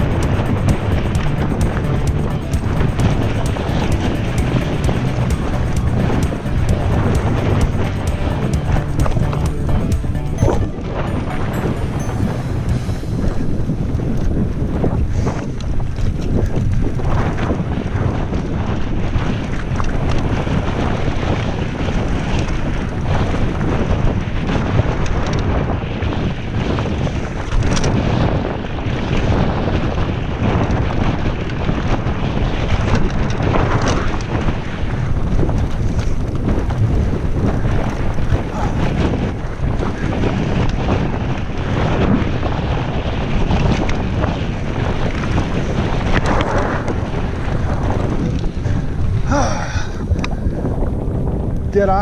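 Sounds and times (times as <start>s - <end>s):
bike rattling over bumps: 0.0s - 11.0s, 12.0s - 52.0s
wind rushing over microphone: 0.0s - 52.0s.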